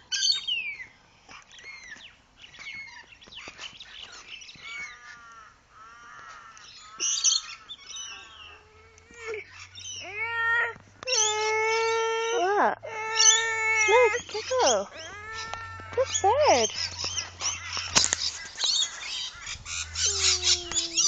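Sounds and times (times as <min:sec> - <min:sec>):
birds chirping: 0:00.0 - 0:21.0
harsh bird calls: 0:00.0 - 0:21.0.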